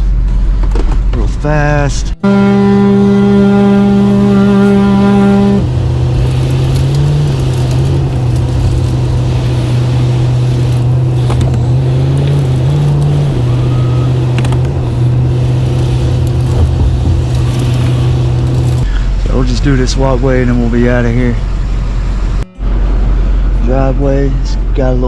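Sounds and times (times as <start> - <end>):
truck engine running: 2.2 - 23.6.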